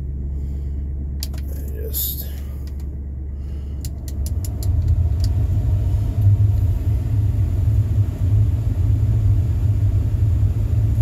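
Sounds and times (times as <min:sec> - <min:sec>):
car engine idling: 0:00.0 - 0:11.0
heater blower rumble: 0:00.0 - 0:11.0.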